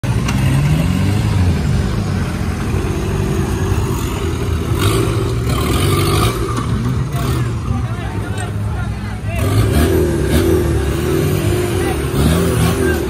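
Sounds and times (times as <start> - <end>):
off-road vehicle engine: 0.0 - 13.0.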